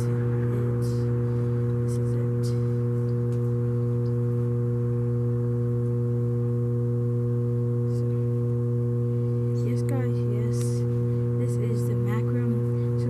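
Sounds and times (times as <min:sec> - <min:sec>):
steady low-pitched hum: 0:00.0 - 0:13.0.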